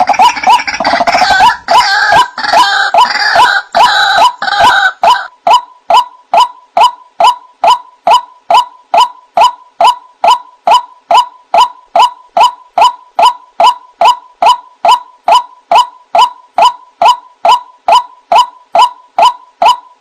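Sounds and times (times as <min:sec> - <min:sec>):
waterhen repeated call: 0:00.0 - 0:20.0.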